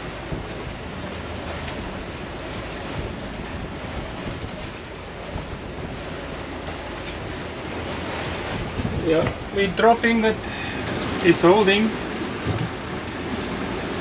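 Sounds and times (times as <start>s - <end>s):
wind and sea wash: 0.0s - 14.0s
wind buffeting microphone: 0.0s - 14.0s.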